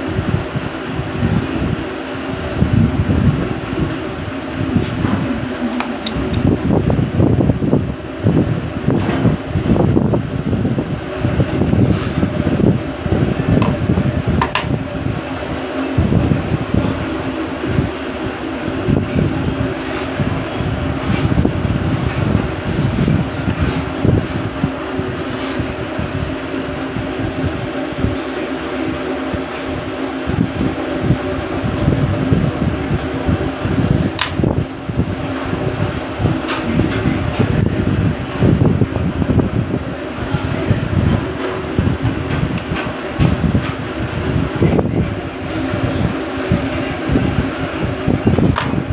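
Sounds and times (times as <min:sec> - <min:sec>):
wind buffeting microphone: 0:00.0 - 0:28.2, 0:28.9 - 0:48.9
electric fan running: 0:00.0 - 0:48.9.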